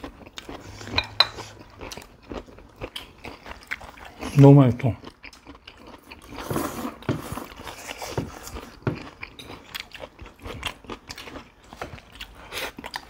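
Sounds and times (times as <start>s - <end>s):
people chewing and biting food: 0.0s - 13.0s.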